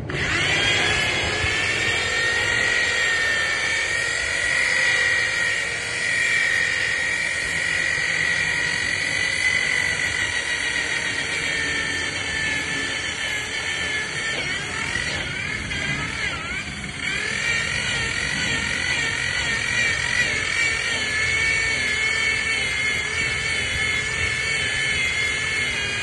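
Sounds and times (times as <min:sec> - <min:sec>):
electric polisher whining: 0:00.0 - 0:26.0.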